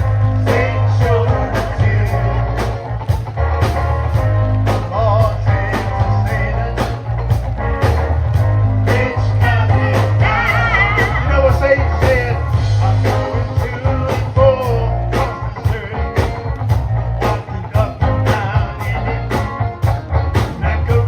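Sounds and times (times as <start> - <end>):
person singing: 0.0 - 2.8, 4.6 - 7.3, 8.8 - 16.6, 17.2 - 21.0
gospel band playing: 0.0 - 21.0.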